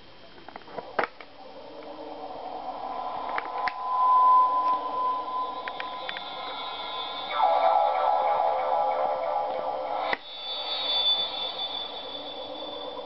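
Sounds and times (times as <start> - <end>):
electronic toy steady tone: 1.0 - 13.0.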